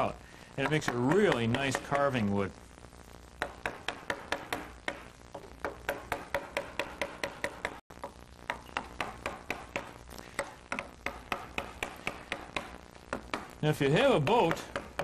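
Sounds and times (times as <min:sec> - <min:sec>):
mallet knocking on gouge: 0:00.6 - 0:02.1, 0:03.4 - 0:13.5, 0:14.2 - 0:15.0.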